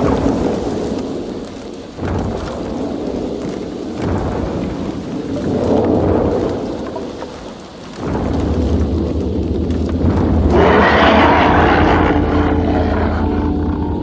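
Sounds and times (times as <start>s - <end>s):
heavy rain: 0.0s - 14.0s
rolling thunder: 0.0s - 14.0s.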